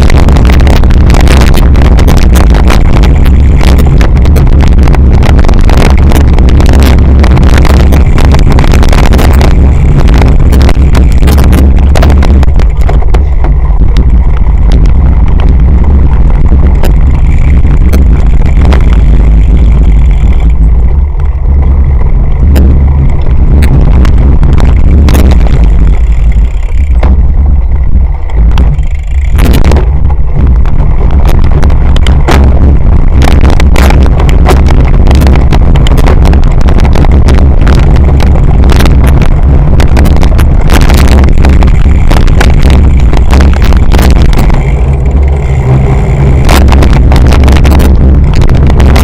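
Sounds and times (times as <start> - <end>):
bike knocking and rattling: 0.0 - 49.0
wind rumble on microphone: 0.0 - 49.0.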